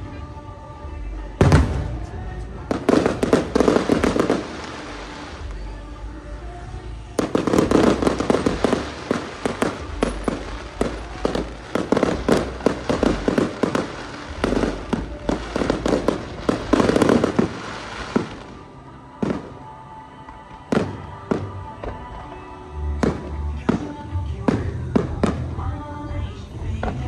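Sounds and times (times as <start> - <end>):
fireworks bangs and crackles: 1.4 - 19.7, 20.3 - 22.1, 23.0 - 25.8.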